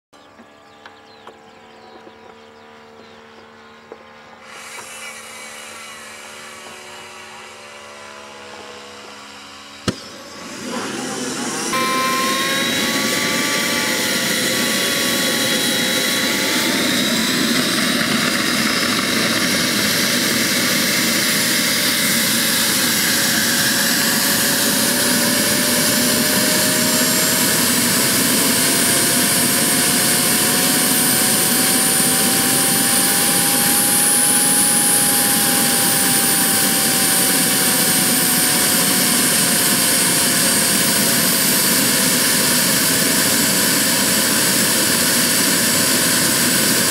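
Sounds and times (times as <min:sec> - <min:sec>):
model jet turbine whining: 0:04.3 - 0:46.9.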